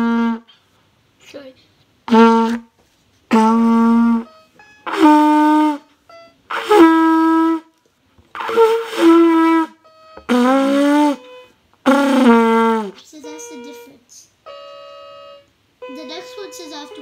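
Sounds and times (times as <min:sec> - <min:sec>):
trumpet held notes: 0:00.0 - 0:00.6, 0:02.1 - 0:02.7, 0:03.3 - 0:17.0.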